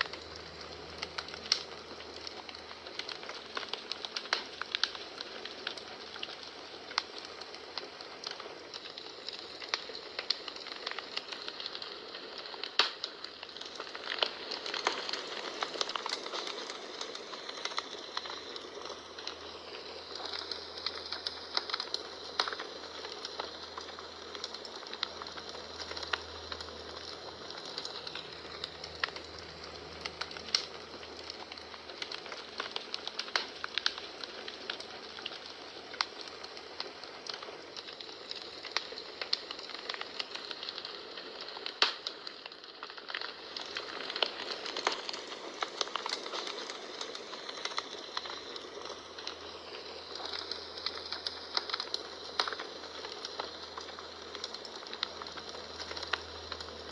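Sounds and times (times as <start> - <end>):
hiss of flames: 0.0 - 56.9
wood fire crackling and popping: 0.0 - 56.9.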